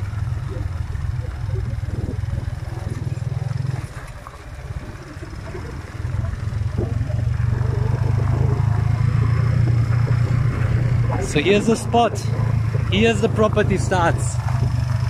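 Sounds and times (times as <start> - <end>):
motorcycle engine running: 0.0 - 15.0
tyres on gravel road: 0.0 - 15.0.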